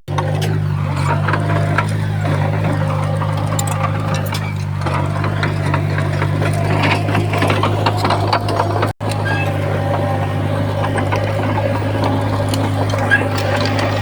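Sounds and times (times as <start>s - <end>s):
diesel machine droning: 0.0s - 14.0s
metallic clanking and rattling: 0.1s - 14.0s.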